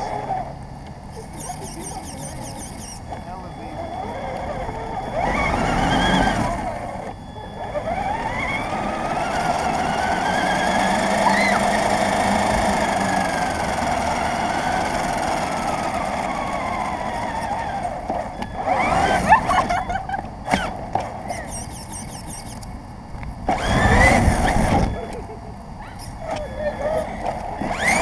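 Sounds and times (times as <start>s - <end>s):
radio-controlled car motor whining: 1.1s - 22.8s, 23.4s - 28.0s.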